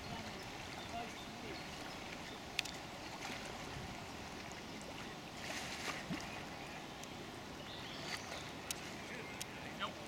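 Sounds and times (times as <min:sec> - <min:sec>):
background water wash: 0:00.0 - 0:10.0
kayak paddles stroking water: 0:00.0 - 0:10.0.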